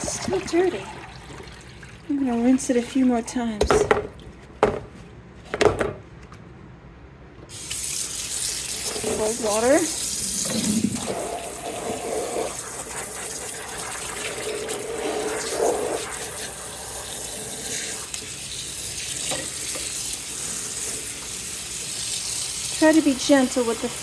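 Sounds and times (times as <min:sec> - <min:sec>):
water running from a tap into a sink: 0:00.0 - 0:03.4, 0:07.5 - 0:24.0.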